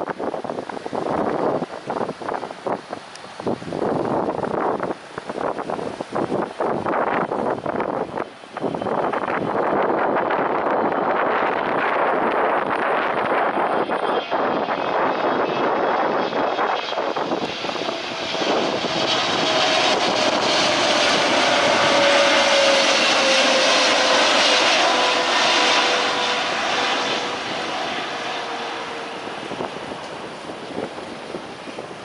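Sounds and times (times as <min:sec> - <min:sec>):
jet airliner engine roar: 0:00.0 - 0:32.0
jet engine whine falling in pitch: 0:04.9 - 0:32.0.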